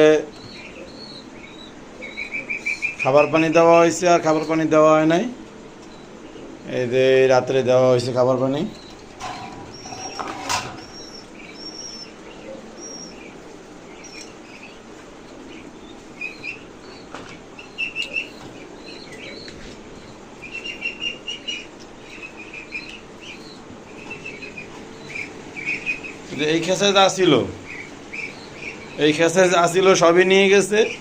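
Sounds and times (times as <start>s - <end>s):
pigeons chirping: 0.0s - 31.0s
young pigeons peeping: 0.0s - 31.0s.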